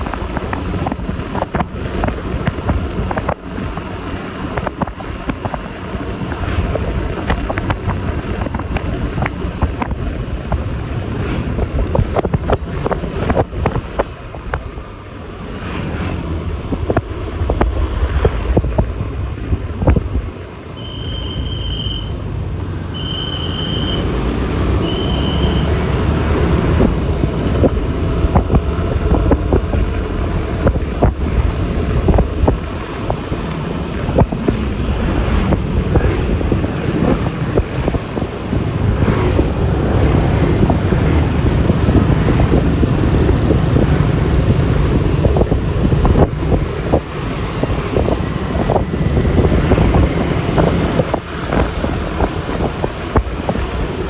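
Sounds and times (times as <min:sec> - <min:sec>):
road and traffic noise: 0:00.0 - 0:54.0
wind rumbling on microphone: 0:00.0 - 0:54.0.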